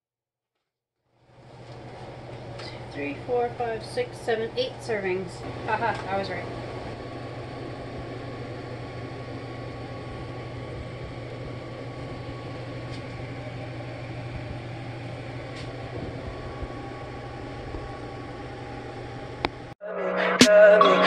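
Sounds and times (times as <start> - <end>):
low hum: 1.2 - 19.8.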